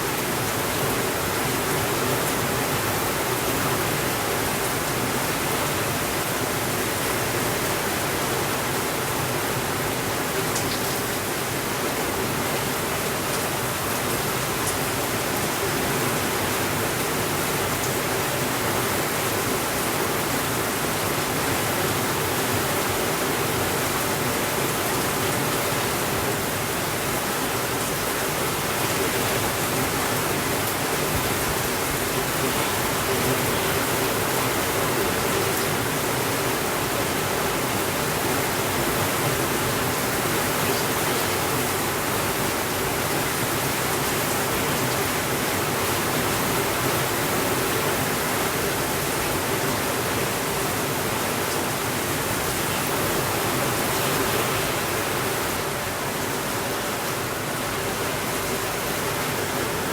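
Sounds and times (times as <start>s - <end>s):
heavy rain on a window: 0.0s - 59.9s.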